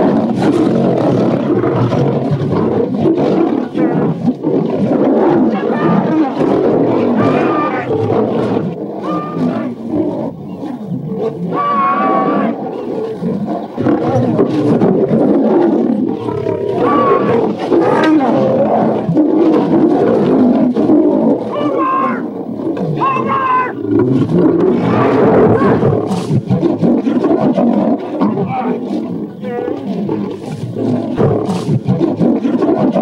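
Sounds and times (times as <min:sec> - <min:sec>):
lions roaring and growling: 0:00.0 - 0:33.0.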